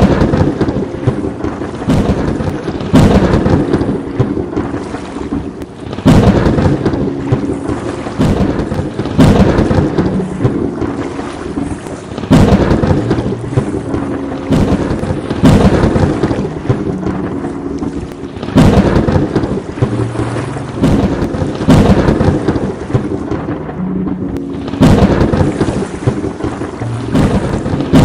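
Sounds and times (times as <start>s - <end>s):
loud thunder cracks: 0.0s - 17.4s, 18.4s - 23.8s, 24.7s - 28.0s
rolling thunder: 0.0s - 28.0s
steady rain: 0.0s - 28.0s.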